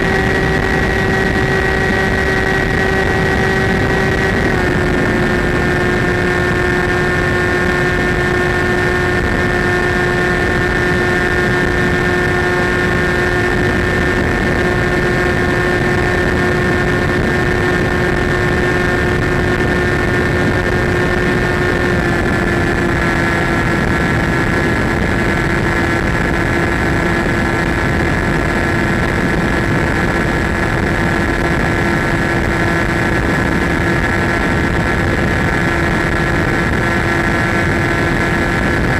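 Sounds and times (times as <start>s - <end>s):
model airplane motor whine: 0.0s - 38.9s
rushing air: 0.0s - 38.9s.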